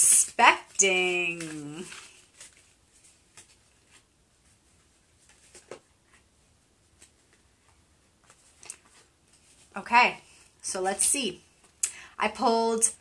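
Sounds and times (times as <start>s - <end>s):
tarot cards tapping and rustling: 0.0s - 10.5s.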